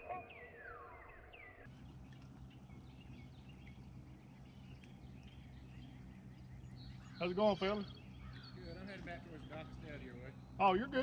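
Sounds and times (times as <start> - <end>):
faint bird chirps: 0.0 - 11.0
boat motor humming: 1.7 - 11.0.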